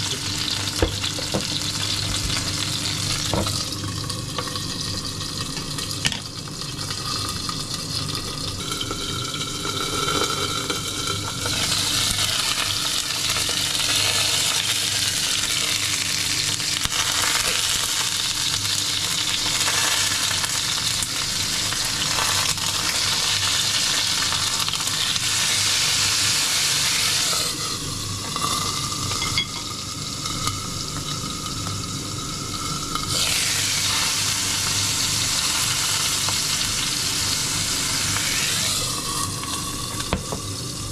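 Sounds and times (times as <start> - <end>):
food sizzling: 0.0 - 40.9.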